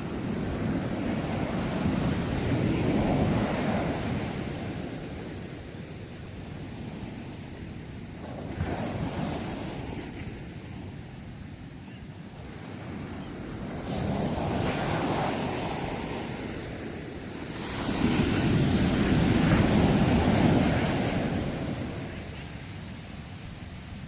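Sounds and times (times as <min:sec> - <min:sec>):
ocean waves breaking: 0:00.0 - 0:11.2, 0:12.3 - 0:24.0.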